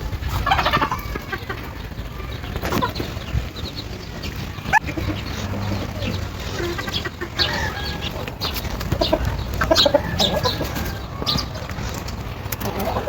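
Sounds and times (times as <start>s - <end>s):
birds chirping: 0.0s - 13.0s
chickens clucking: 0.0s - 13.0s.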